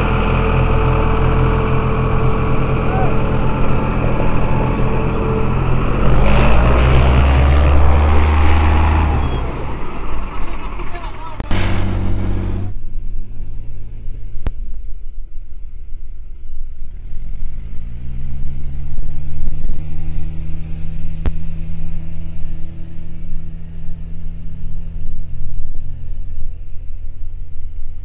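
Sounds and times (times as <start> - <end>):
tractor diesel engines revving: 0.0 - 14.5, 16.3 - 26.6.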